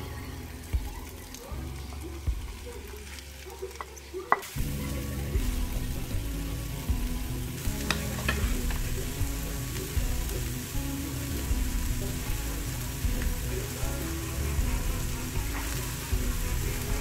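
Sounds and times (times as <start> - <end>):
pot sizzling: 0.0 - 17.0.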